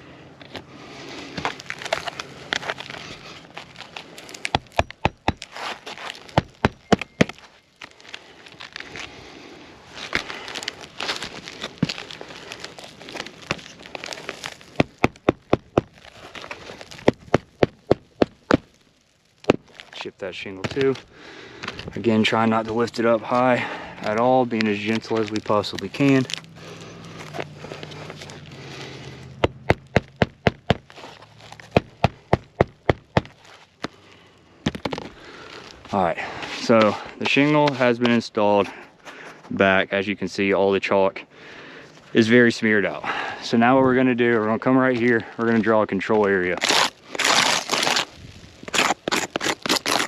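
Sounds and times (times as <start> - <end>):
shingle crackling and tearing: 0.1 - 39.9, 41.8 - 50.0.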